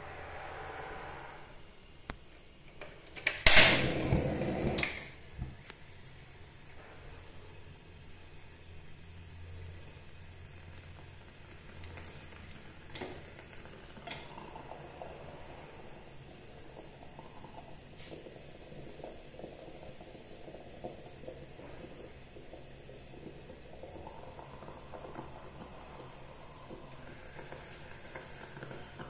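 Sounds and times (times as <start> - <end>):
moka pot gurgling and sputtering: 0.0 - 29.0.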